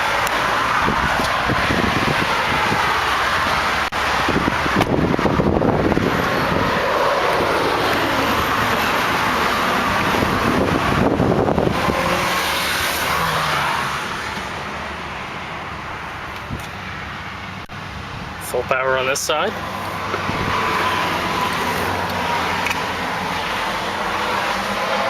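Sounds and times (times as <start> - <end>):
motor traffic passing: 0.0 - 25.0.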